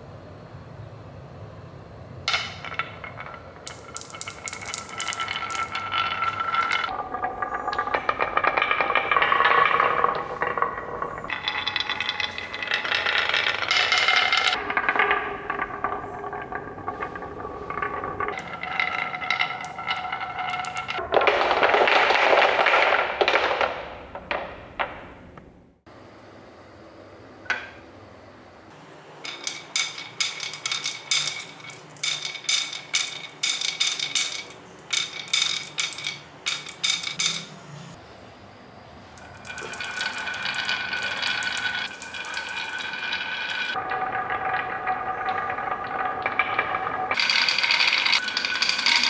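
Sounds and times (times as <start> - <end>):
small hard objects clinking: 2.3 - 23.7, 29.2 - 37.6, 39.2 - 49.0.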